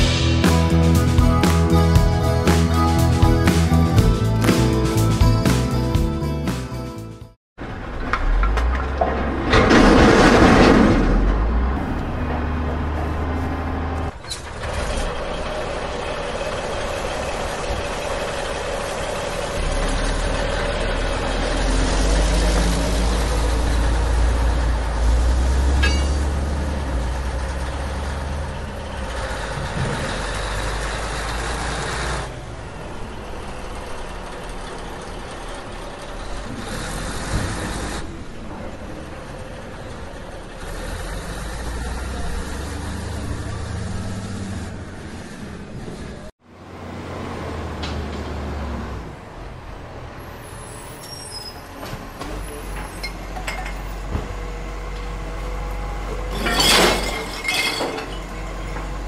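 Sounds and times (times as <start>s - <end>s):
truck engine rumbling: 0.0s - 59.0s.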